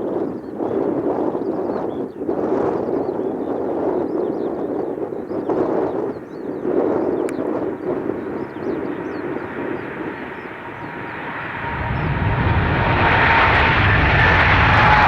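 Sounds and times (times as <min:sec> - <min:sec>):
jet engine rumble and whine: 0:00.0 - 0:15.0.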